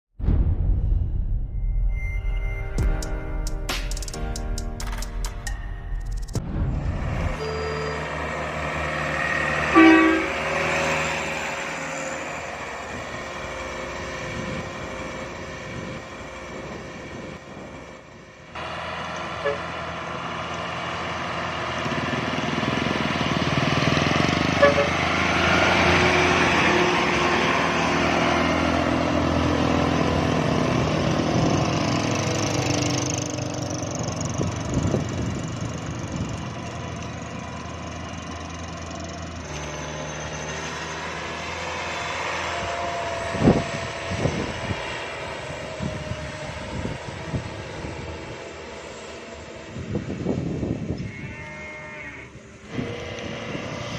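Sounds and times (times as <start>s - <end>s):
truck diesel engine running: 2.8s - 50.9s.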